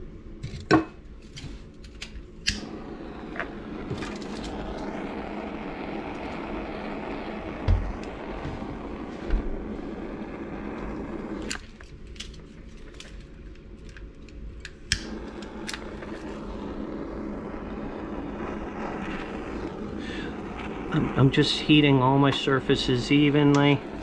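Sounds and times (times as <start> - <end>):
kitchen torch flame hissing: 1.2 - 24.0
torch igniting click: 1.3 - 24.0.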